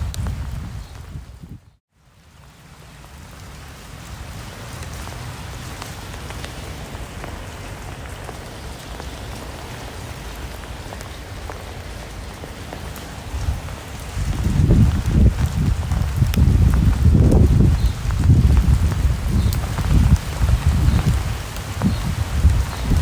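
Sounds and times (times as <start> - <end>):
steady rainfall hiss: 0.0 - 23.0.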